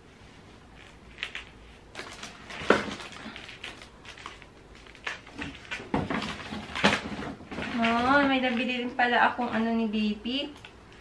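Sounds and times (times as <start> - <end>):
paper bag rustling and crinkling: 0.8 - 9.7.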